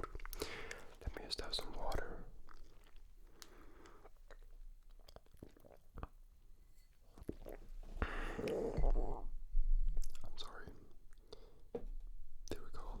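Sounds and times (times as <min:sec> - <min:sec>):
person sipping and swallowing water: 0:00.0 - 0:06.3, 0:07.1 - 0:11.6.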